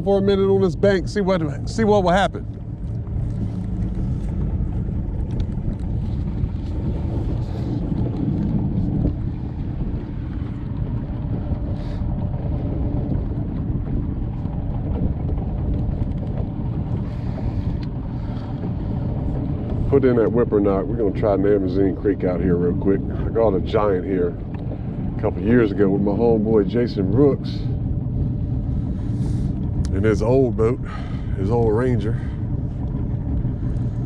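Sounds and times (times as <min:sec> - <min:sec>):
outboard motor running: 0:00.0 - 0:34.0
wind buffeting microphone: 0:00.0 - 0:34.0.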